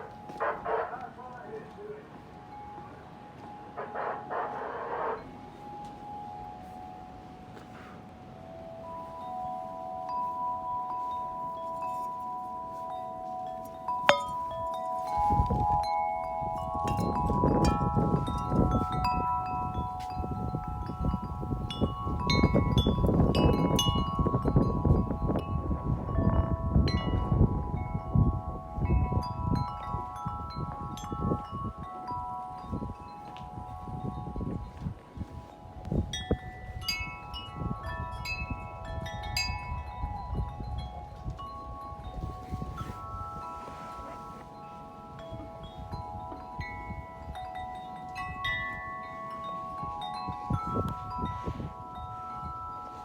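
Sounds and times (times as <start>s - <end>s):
wind chime ringing: 0.0s - 53.0s
wind rumbling on microphone: 2.1s - 53.0s.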